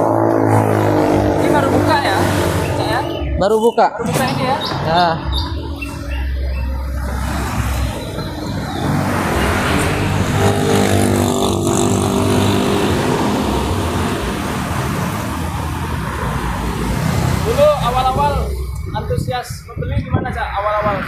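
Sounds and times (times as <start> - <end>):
vehicle engine passing by: 0.0 - 18.8
outdoor noise rushing: 0.0 - 21.0.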